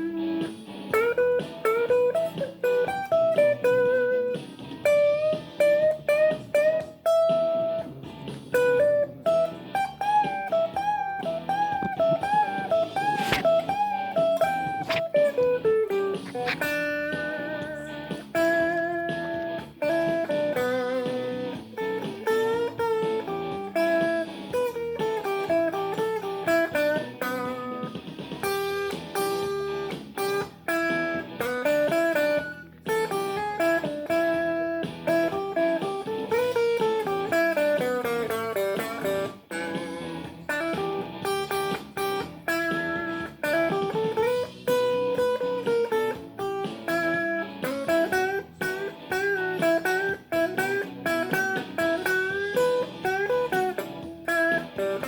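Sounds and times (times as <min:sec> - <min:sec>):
blues guitar lead with bent notes: 0:00.0 - 0:55.0.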